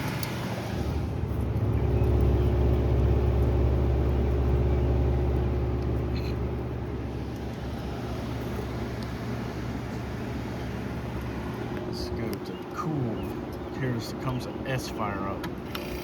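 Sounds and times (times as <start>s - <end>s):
air conditioner fan hum: 0.0s - 16.0s.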